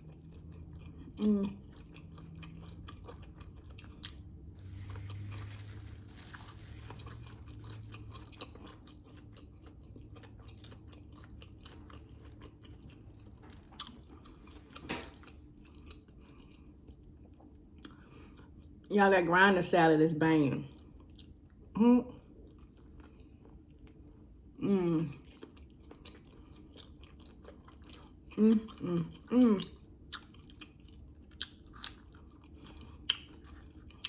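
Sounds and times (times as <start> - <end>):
close-up chewing: 0.0 - 18.8, 22.3 - 24.4, 25.1 - 34.0.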